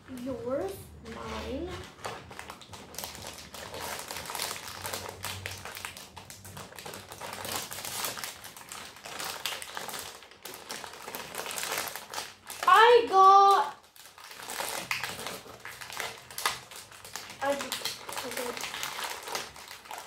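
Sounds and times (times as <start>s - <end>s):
foil packs crinkling: 1.1s - 20.0s.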